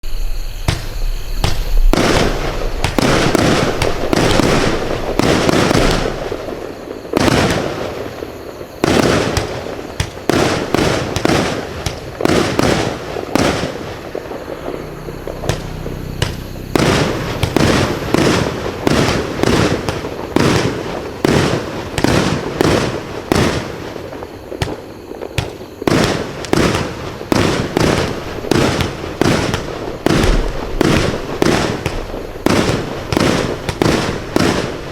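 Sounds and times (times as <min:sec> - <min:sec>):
fireworks firing and bursting: 0:00.1 - 0:34.9.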